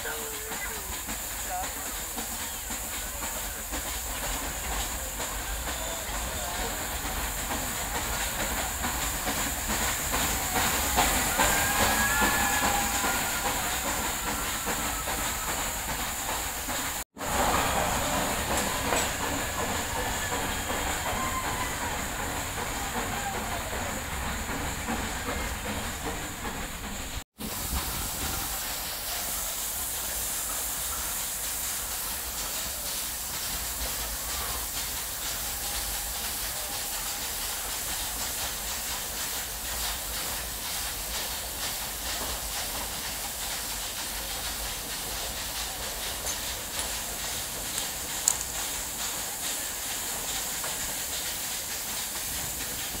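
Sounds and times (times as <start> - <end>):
train running: 0.0 - 53.0.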